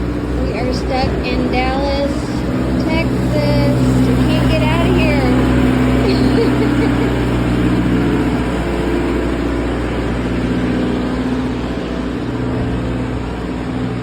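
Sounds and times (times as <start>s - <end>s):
large engine humming: 0.0s - 14.0s.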